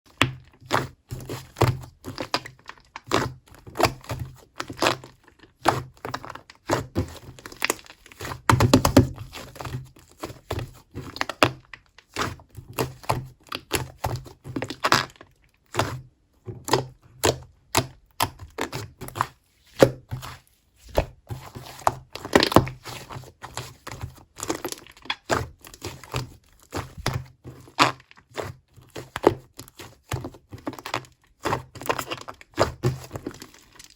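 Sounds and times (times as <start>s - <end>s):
slime squishing with sticky pops: 0.1s - 33.9s.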